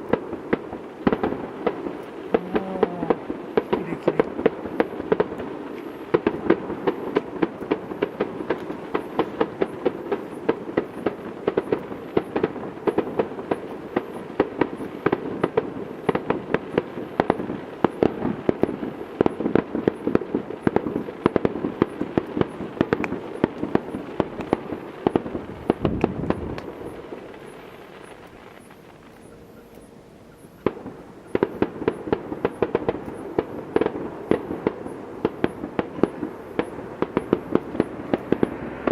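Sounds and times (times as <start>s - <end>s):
deep firework boom: 0.0s - 28.7s, 30.6s - 38.9s
fireworks crackling and popping: 0.0s - 38.9s.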